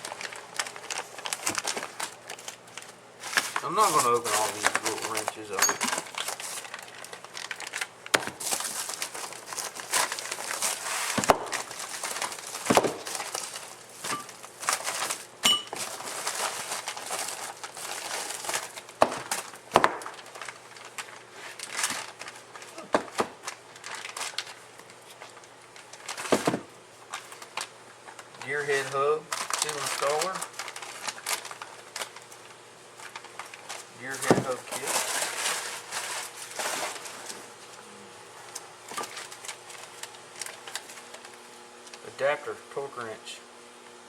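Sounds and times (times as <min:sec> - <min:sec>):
packaging crinkling and rustling: 0:00.0 - 0:42.0.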